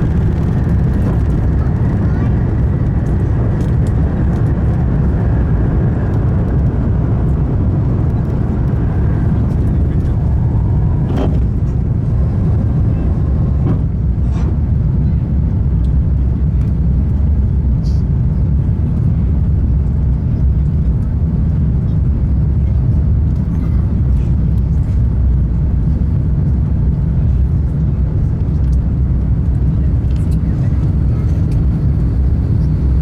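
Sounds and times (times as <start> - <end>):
airflow in aircraft cabin: 0.0 - 33.0
low rumble of jet engines: 0.0 - 33.0.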